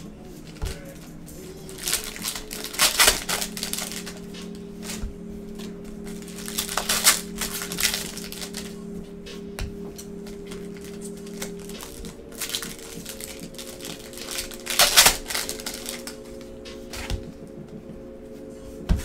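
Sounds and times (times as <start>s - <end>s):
faint background music: 0.0s - 19.0s
foil wrappers crinkling: 0.4s - 17.3s.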